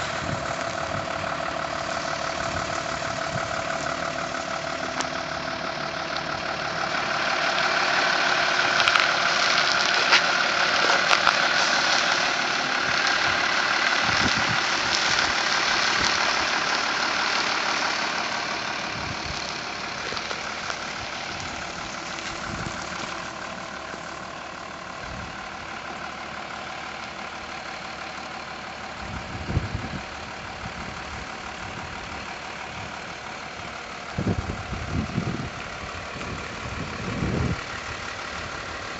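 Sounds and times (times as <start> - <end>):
lorry diesel engine running: 0.0 - 38.9.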